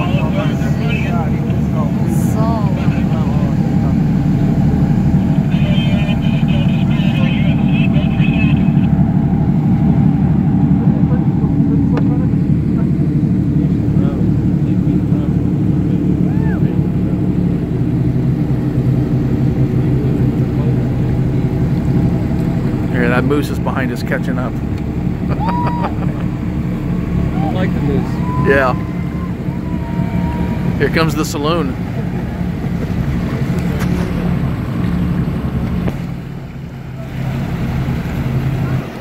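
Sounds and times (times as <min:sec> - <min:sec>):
motorboat engine humming: 0:00.0 - 0:39.0
water rushing: 0:00.0 - 0:39.0.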